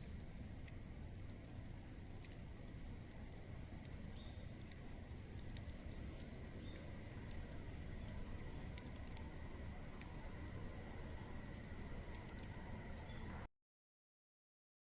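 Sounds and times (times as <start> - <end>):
bonfire crackling: 0.0 - 13.5.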